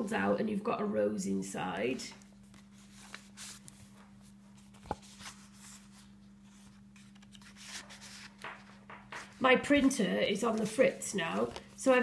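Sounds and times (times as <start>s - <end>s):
paper pages rustling: 2.2s - 12.0s.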